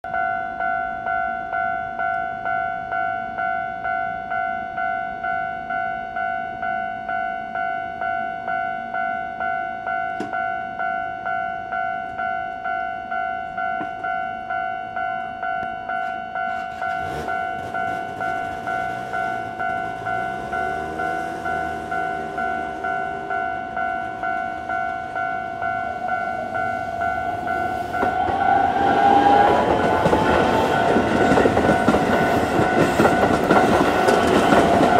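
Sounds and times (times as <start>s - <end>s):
level crossing alarm bell: 0.1s - 34.9s.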